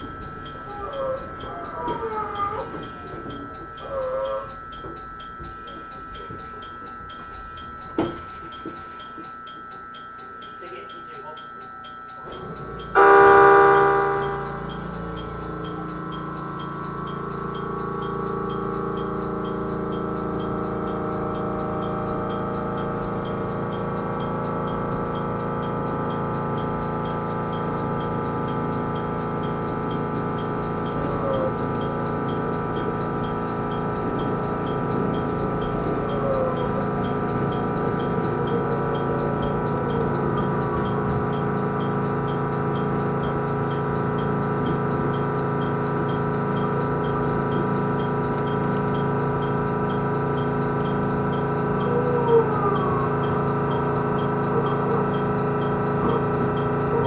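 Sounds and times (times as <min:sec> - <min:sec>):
electric train equipment humming: 0:00.0 - 0:57.0
light even ticking: 0:00.0 - 0:57.0.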